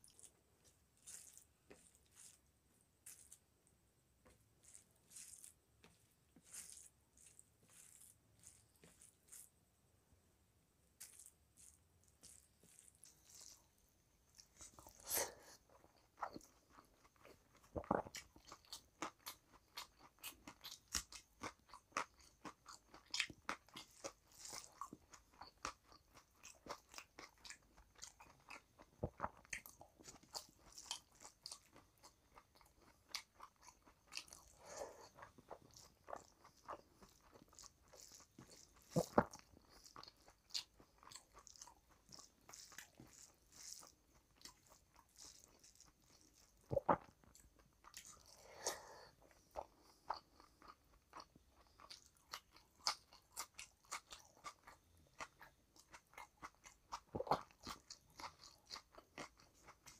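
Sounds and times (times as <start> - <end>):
fingers squishing rice: 0.0 - 9.7, 10.9 - 59.9.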